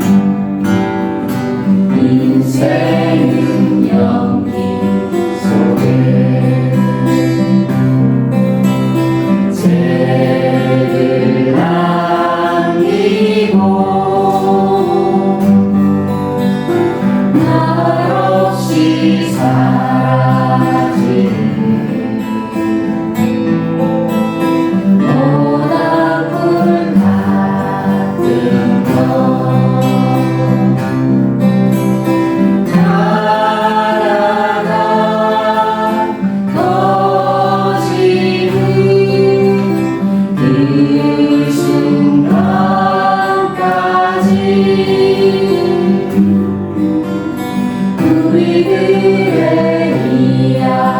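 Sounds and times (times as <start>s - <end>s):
acoustic guitar chords: 0.0s - 50.9s
person singing: 1.7s - 7.8s, 9.5s - 15.8s, 17.3s - 22.6s, 25.0s - 31.2s, 32.6s - 50.9s.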